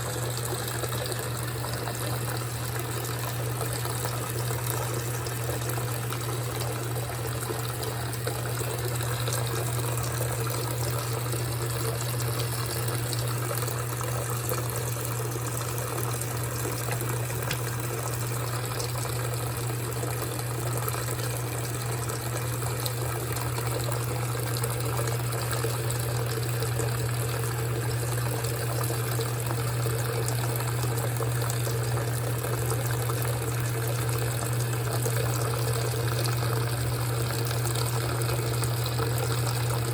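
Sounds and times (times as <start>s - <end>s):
washing machine low hum: 0.0s - 39.9s
water rushing and splashing in tub: 0.0s - 39.9s.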